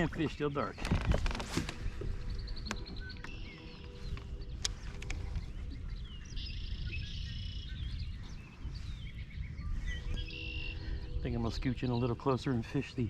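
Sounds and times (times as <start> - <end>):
birds calling and singing: 0.0 - 13.0
steady low rumble: 0.0 - 13.0.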